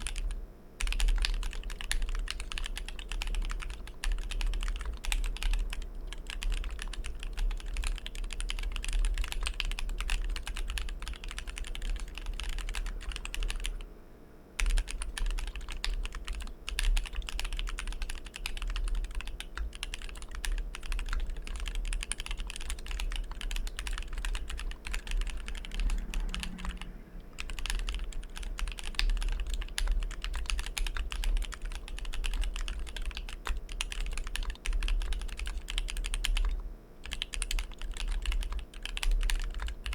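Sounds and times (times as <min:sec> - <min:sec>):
mechanical keyboard typing: 0:00.0 - 0:13.8, 0:14.6 - 0:39.9.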